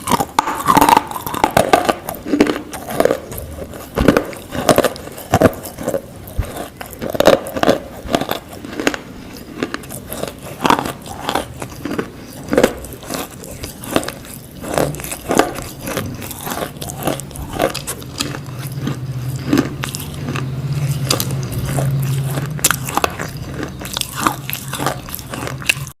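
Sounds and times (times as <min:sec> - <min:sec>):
crunchy food chewing: 0:00.0 - 0:26.0
low steady hum: 0:00.0 - 0:26.0.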